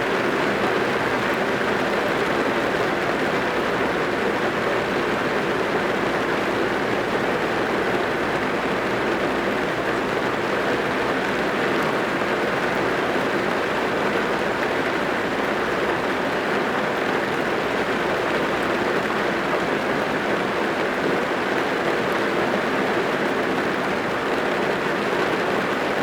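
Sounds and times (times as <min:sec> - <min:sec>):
rain drumming on a car roof: 0:00.1 - 0:26.0.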